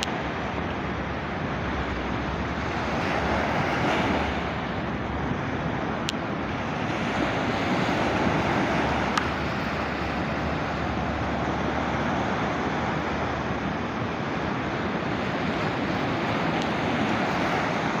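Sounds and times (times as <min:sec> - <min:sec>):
waves breaking on shore: 0:00.0 - 0:18.0.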